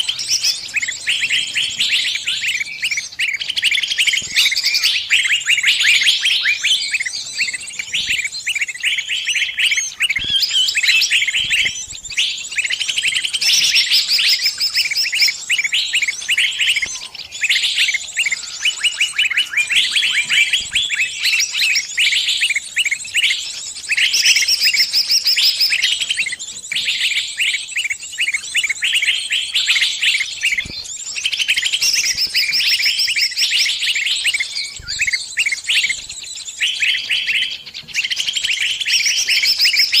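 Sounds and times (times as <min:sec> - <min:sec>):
bird chirping distress calls: 0:00.0 - 0:40.0.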